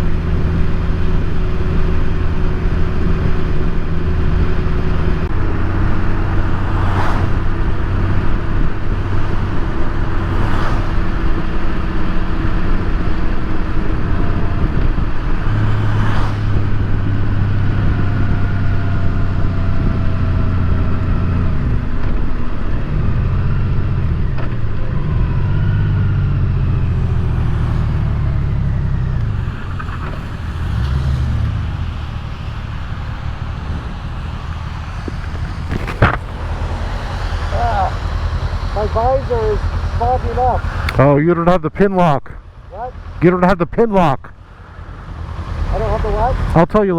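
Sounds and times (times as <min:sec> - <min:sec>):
motorcycle engine running: 0:00.0 - 0:41.2, 0:42.4 - 0:43.5, 0:44.3 - 0:46.7
wind and road noise: 0:00.0 - 0:46.9.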